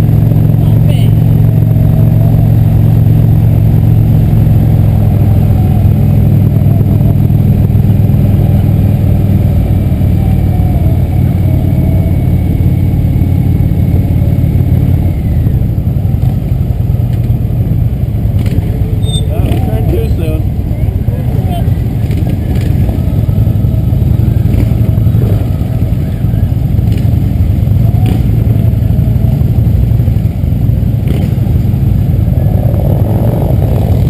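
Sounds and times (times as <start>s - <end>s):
motorcycle engines droning: 0.0s - 34.0s.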